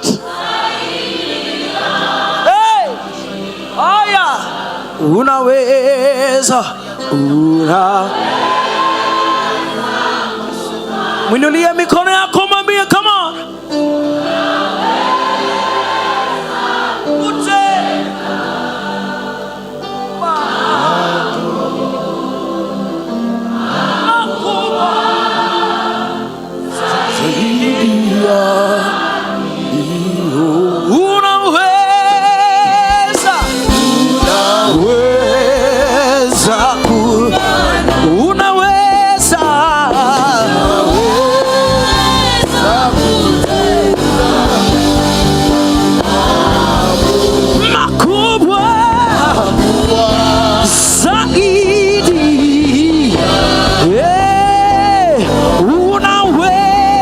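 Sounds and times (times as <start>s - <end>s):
choir singing: 0.0s - 12.2s, 13.5s - 57.0s
gospel worship band: 0.0s - 57.0s.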